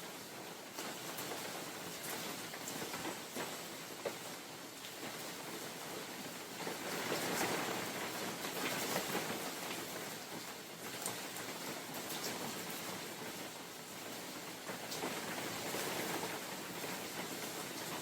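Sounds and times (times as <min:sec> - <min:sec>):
rain drops ticking on leaves: 0:00.0 - 0:18.0.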